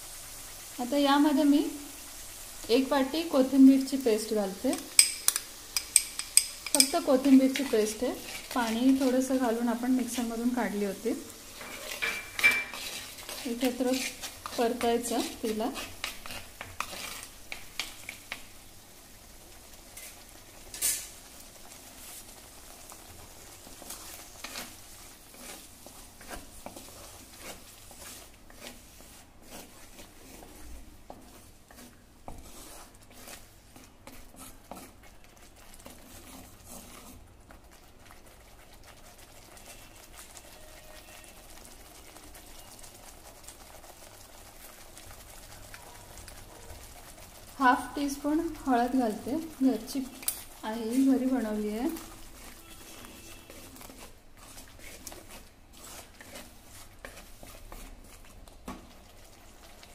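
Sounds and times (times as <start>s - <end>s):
paste sizzling in oil: 0.0s - 59.9s
spoon scraping pot: 2.8s - 18.5s, 22.0s - 43.6s, 46.8s - 59.8s.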